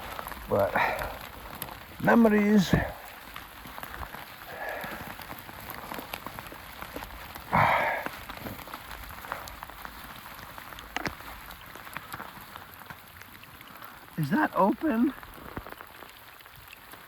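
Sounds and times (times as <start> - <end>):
raindrops ticking: 0.0 - 17.0
steady rain falling: 0.0 - 17.0.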